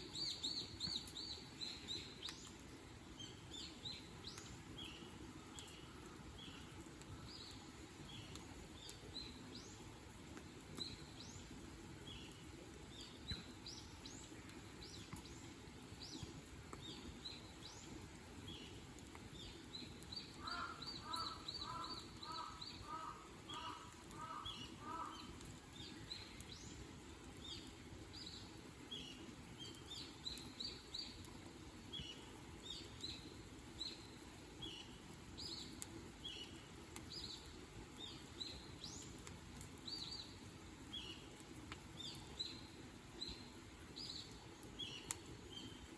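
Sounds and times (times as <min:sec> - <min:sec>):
low background noise: 0:00.0 - 0:45.9
small birds chirping: 0:00.0 - 0:45.9.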